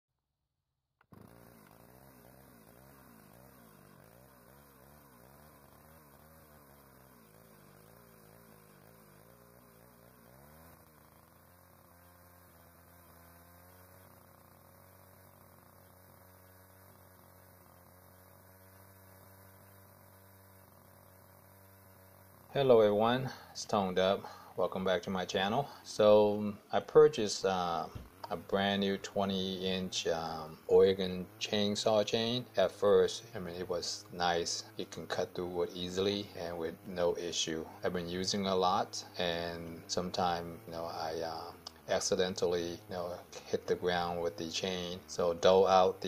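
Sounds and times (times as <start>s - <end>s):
faint wavering hum: 1.2s - 46.0s.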